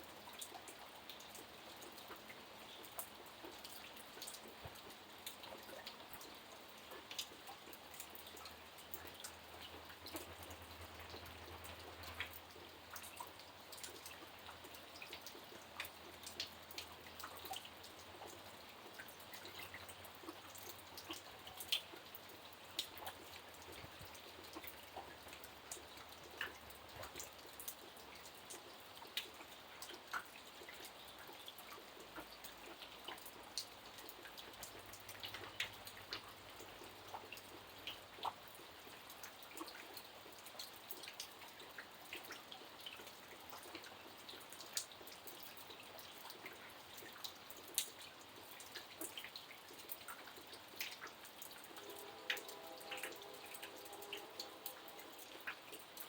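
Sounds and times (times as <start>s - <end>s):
faint rain hiss: 0.0s - 56.0s
raindrops dripping: 0.0s - 56.0s.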